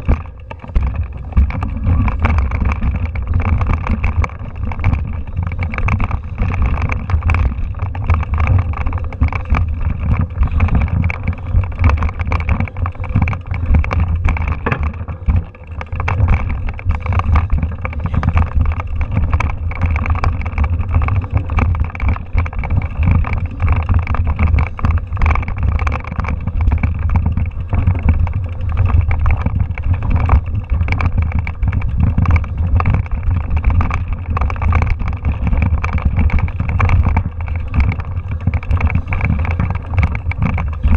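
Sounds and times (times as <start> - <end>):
bike rattling over rocks: 0.0 - 40.9
bike rolling low rumble: 0.0 - 40.9.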